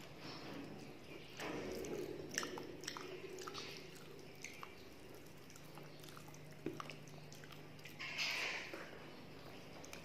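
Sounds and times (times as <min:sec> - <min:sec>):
chewing clicks and smacks: 0:01.4 - 0:10.0.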